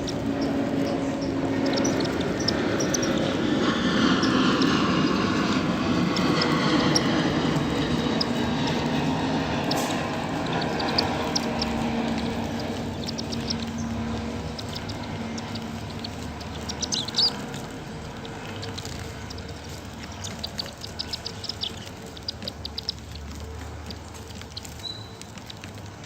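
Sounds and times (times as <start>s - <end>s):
low steady hum: 0.0s - 26.0s
sparrows chirping: 0.0s - 26.0s.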